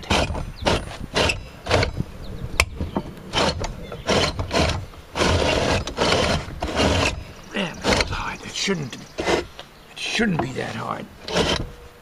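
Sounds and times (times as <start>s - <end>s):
saw turntable scraping and grinding: 0.0s - 2.0s, 2.8s - 11.8s.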